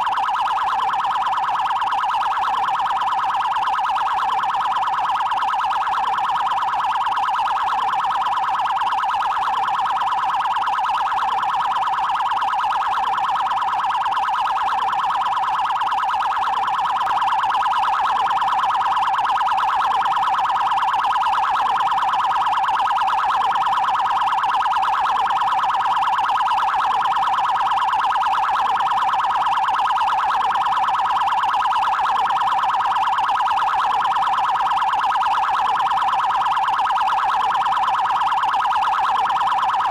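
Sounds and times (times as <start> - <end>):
fast pulsing electronic siren: 0.0 - 39.9.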